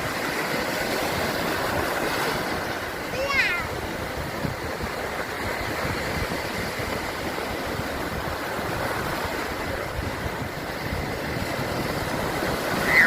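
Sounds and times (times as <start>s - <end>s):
sea surf washing on shore: 0.0s - 13.0s
wind rumbling on microphone: 0.0s - 13.0s.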